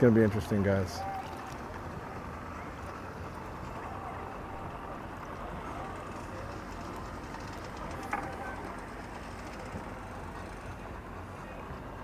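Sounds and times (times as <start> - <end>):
boat engine rumbling: 0.0 - 12.0
waterside background noise: 0.0 - 12.0.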